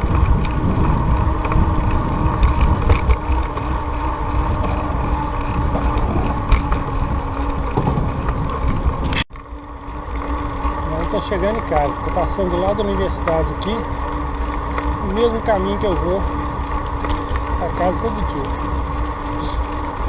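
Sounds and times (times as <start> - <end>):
road noise: 0.0 - 20.0
wind rumble on microphone: 0.0 - 20.0.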